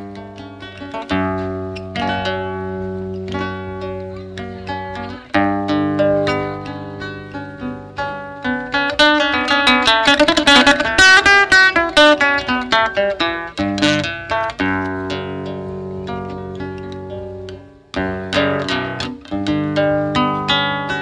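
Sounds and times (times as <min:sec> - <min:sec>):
flamenco acoustic guitar: 0:00.0 - 0:21.0.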